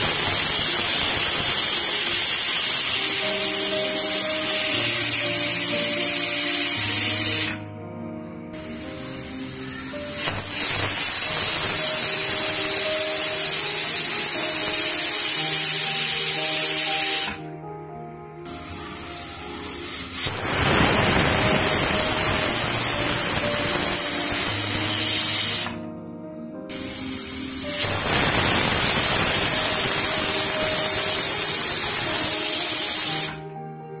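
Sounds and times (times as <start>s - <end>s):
pressure cooker steam hiss: 0.0s - 7.7s, 8.6s - 17.5s, 18.5s - 25.8s, 26.7s - 33.5s.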